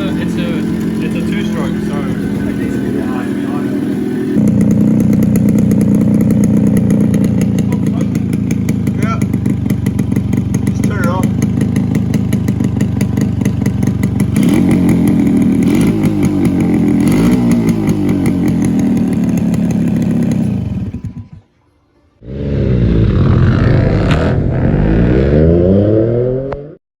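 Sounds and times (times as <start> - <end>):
motorcycle engine revving: 0.0 - 21.6, 22.2 - 26.8.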